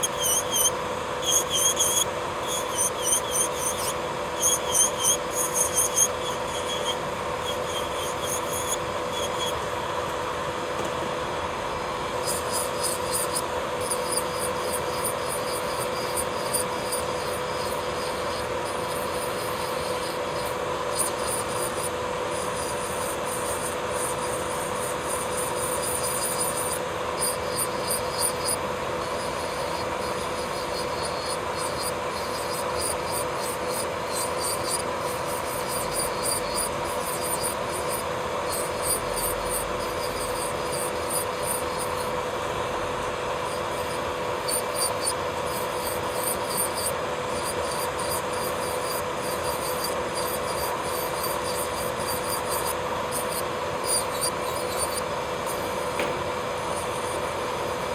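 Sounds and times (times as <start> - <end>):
drill bit rasping on nail: 0.0 - 10.2, 12.0 - 57.9
electric nail drill whining: 0.0 - 57.9.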